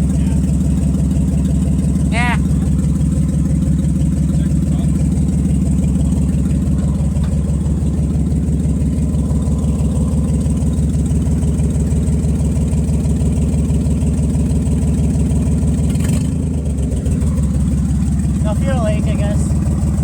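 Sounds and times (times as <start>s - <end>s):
car engine idling: 0.0s - 20.0s
exhaust leak puffing: 0.0s - 20.0s.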